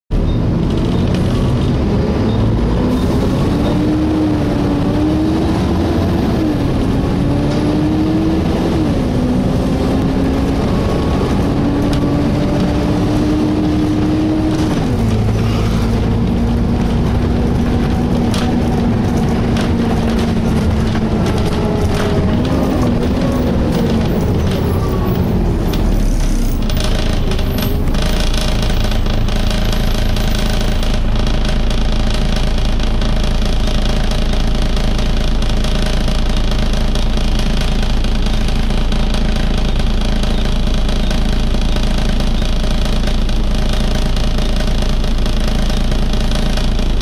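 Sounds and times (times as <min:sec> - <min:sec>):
bus engine: 0:00.1 - 0:47.0
road rumble: 0:00.1 - 0:47.0.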